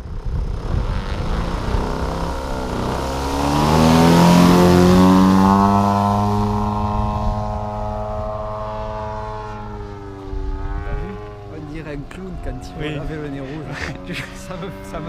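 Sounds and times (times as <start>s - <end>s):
model plane engine: 0.0s - 13.0s, 13.7s - 15.0s.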